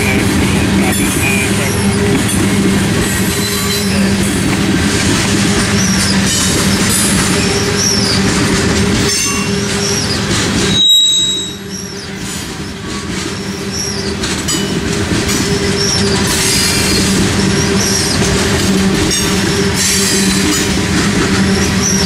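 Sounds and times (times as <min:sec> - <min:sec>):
clickety-clack of rails: 0:00.0 - 0:22.0
train wheels rumbling on rails: 0:00.0 - 0:22.0
wheel squeals: 0:03.0 - 0:22.0.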